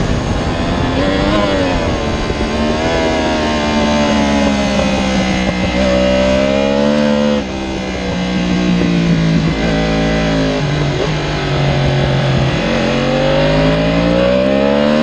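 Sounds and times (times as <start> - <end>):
motorcycle engine at racing speed: 0.0 - 15.0
wind noise: 0.0 - 15.0.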